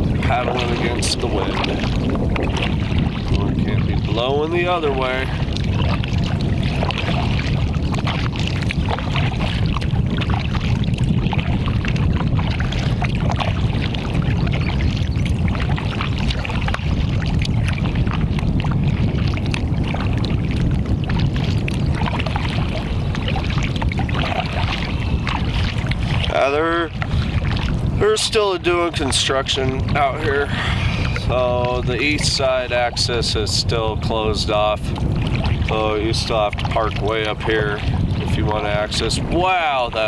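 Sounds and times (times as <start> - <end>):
water splashing against canoe: 0.0 - 40.0
wind rumble on microphone: 0.0 - 40.0.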